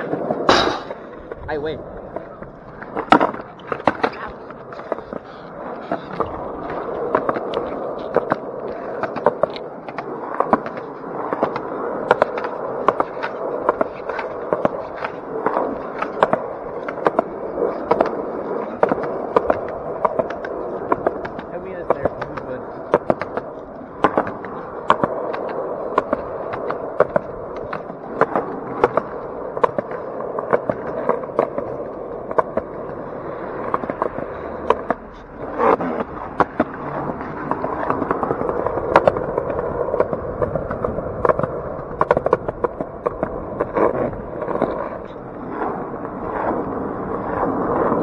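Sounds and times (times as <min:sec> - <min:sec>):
skateboard wheels rumbling: 0:00.0 - 0:48.0
wheels clacking over cracks: 0:00.0 - 0:48.0.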